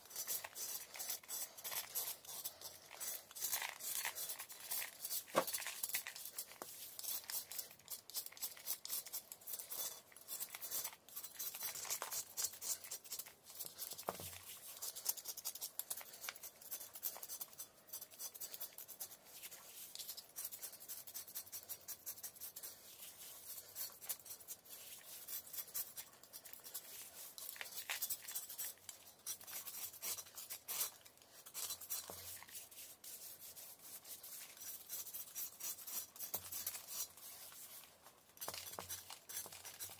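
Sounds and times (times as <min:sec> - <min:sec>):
knife blade scraping chalk: 0:00.0 - 0:39.9.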